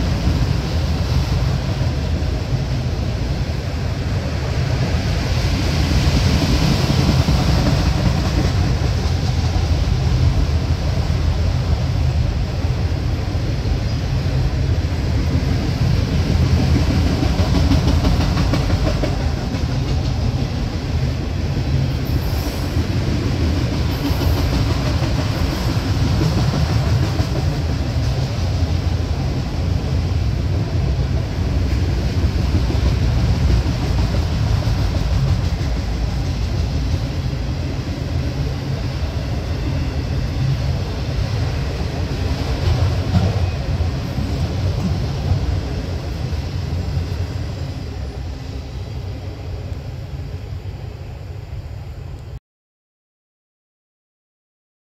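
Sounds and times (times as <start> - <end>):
train wheels rumbling on rail: 0.0 - 52.4.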